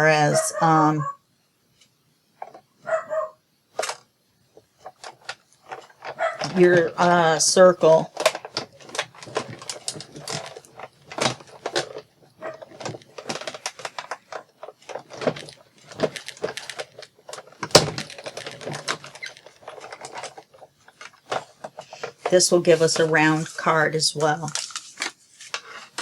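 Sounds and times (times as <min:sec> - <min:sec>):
paper rustling: 0:04.8 - 0:26.0.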